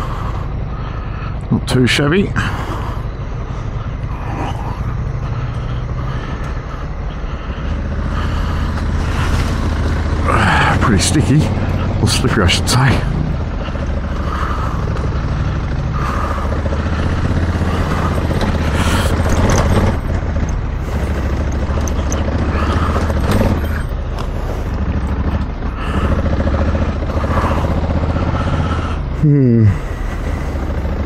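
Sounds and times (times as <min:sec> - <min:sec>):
motorcycle engine running: 0:00.0 - 0:31.0
tyre and road noise: 0:00.0 - 0:31.0.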